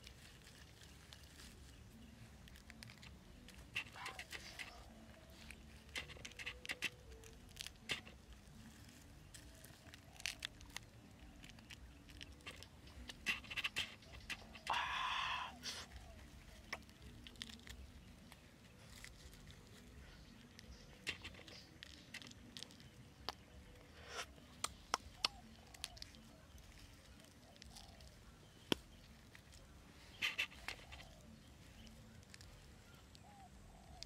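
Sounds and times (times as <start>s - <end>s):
eggshell clicks and crackles: 0.0s - 15.2s, 15.8s - 34.0s.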